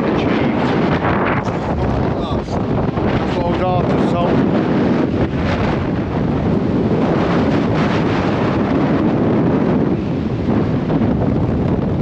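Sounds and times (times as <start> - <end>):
gale wind buffeting microphone: 0.0 - 12.0.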